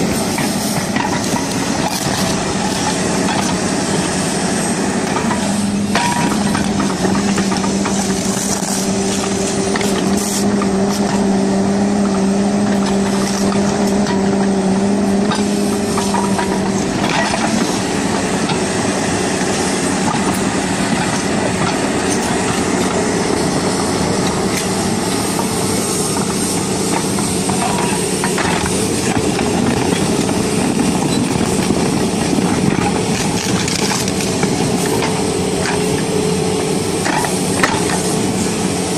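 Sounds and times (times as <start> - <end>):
excavator diesel engine under load: 0.0 - 38.9.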